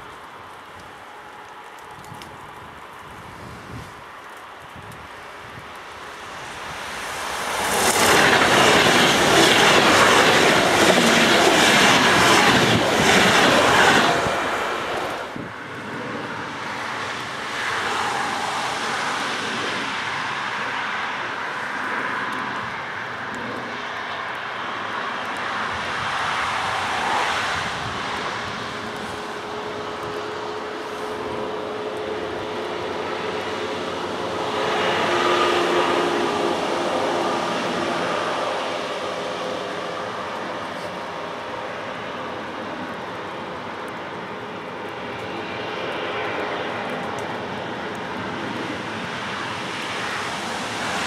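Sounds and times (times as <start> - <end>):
high-speed train passing: 5.1 - 51.0
distant approaching train rumble: 5.9 - 51.0.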